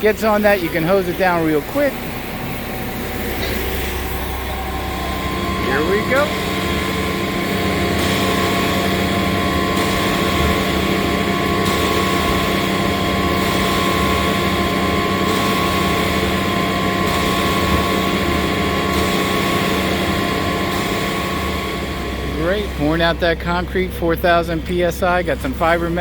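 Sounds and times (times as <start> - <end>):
concrete truck engine running: 0.0 - 26.0
steady whine: 0.0 - 26.0.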